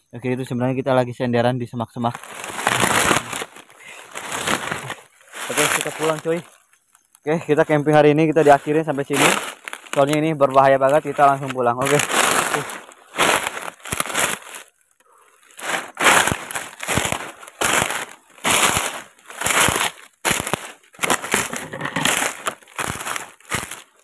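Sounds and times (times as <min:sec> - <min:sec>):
footsteps crunching through dry leaves: 0:02.2 - 0:14.8, 0:15.4 - 0:24.0.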